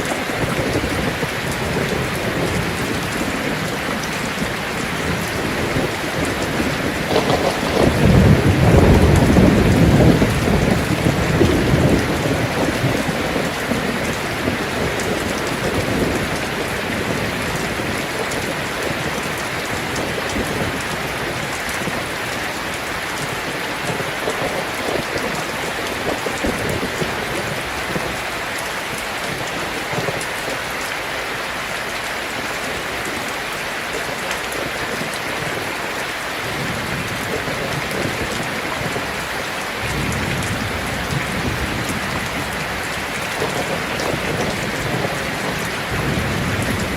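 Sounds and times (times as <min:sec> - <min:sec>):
thunder rumbles: 0:00.0 - 0:30.7, 0:32.4 - 0:46.9
heavy rain on a metal roof: 0:00.0 - 0:46.9.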